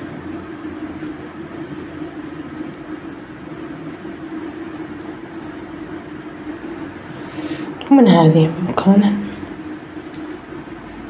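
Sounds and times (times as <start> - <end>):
steady hum with hiss: 0.0 - 11.0.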